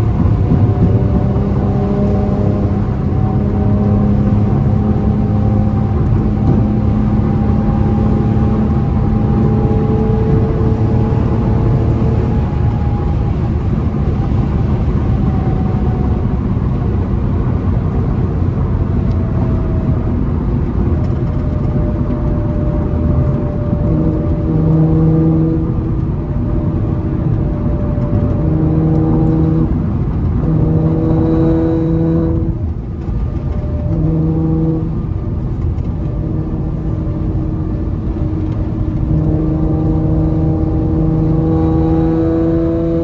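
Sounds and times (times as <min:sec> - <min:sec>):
car cabin road noise: 0:00.0 - 0:43.0
engine drone: 0:00.0 - 0:43.0.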